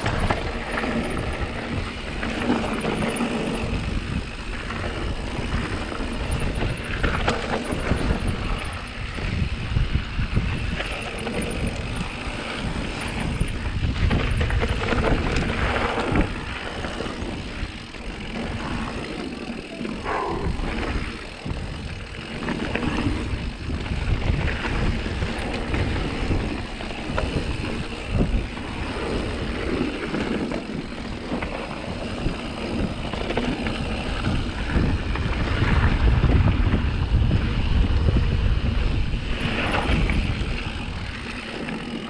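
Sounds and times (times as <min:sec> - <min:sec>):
bike rattling over bumps: 0:00.0 - 0:42.0
bike tyres crunching on gravel: 0:00.0 - 0:42.0
wind buffeting microphone: 0:00.0 - 0:42.0.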